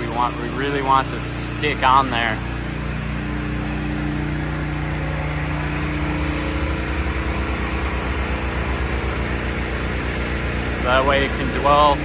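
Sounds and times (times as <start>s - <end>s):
liquid spraying from nozzles: 0.0s - 12.0s
pump running: 0.0s - 12.0s.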